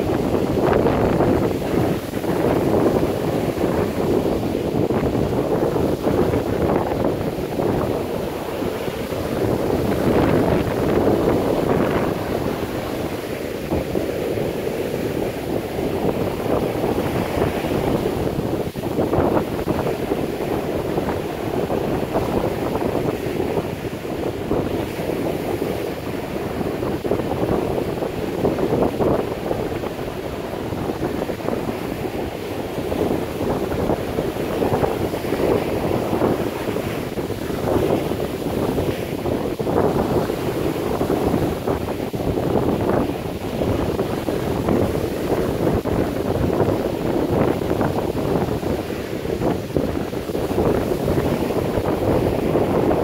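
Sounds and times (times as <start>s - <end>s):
surf breaking on sand: 0.0s - 53.0s
wind buffeting microphone: 0.0s - 53.0s.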